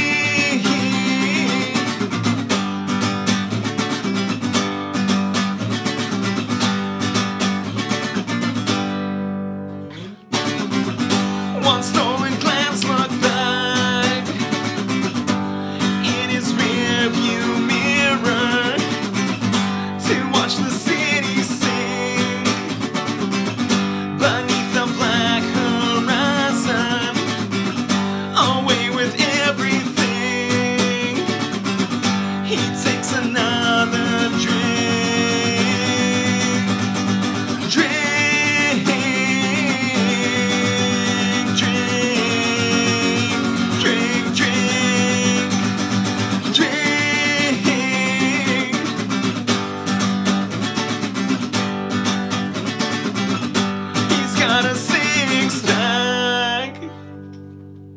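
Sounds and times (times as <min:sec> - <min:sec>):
acoustic guitar: 0:00.0 - 0:57.9.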